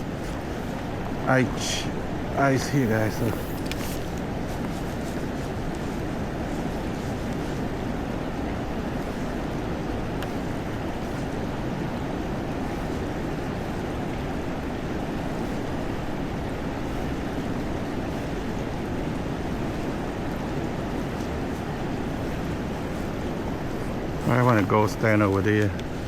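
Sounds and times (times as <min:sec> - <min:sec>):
river current rushing: 0:00.0 - 0:26.0.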